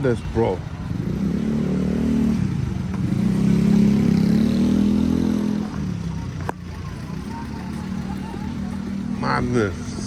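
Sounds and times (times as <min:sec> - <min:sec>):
vehicle engine accelerating: 0:00.2 - 0:10.0.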